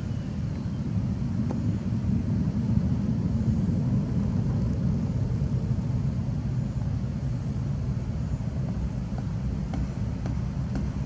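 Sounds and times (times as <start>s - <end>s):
jet aircraft low rumble: 0.0s - 11.0s.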